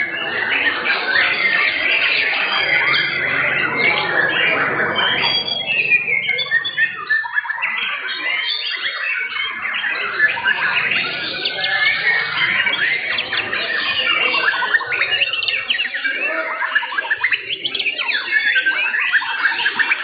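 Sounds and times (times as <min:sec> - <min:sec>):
birds whistling and chirping: 0:00.0 - 0:20.0.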